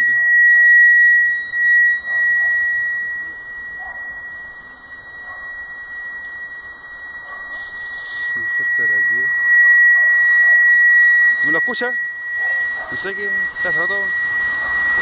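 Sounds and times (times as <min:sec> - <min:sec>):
high-pitched whistling tone: 0:00.0 - 0:15.0.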